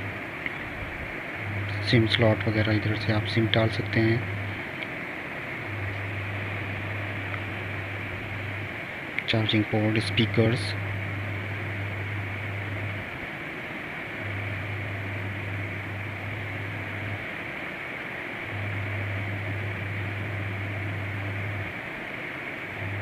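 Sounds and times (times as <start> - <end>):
background hiss: 0.0 - 23.0
low electrical hum: 0.0 - 23.0.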